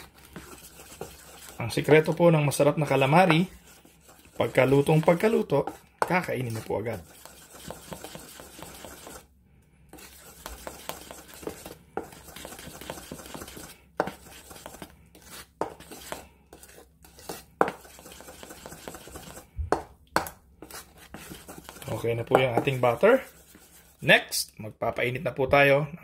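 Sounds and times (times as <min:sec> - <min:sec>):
batter sloshing: 0:00.0 - 0:09.3, 0:09.9 - 0:20.0, 0:20.6 - 0:24.1.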